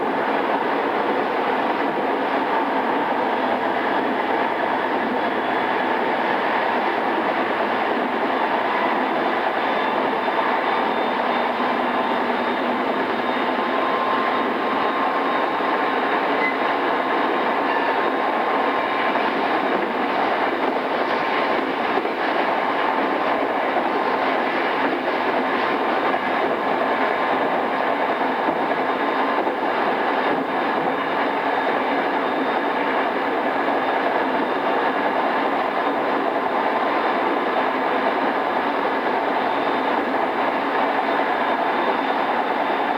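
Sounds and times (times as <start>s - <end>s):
train wheels rumbling on rail: 0.0s - 42.9s.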